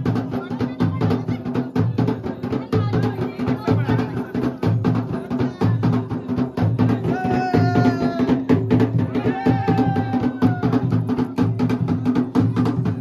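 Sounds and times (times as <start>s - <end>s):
fast steady drumming: 0.0s - 13.0s.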